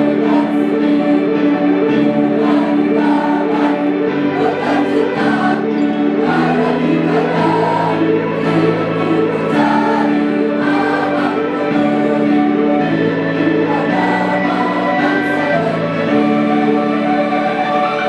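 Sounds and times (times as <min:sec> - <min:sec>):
choir singing sustained notes: 0:00.0 - 0:18.0.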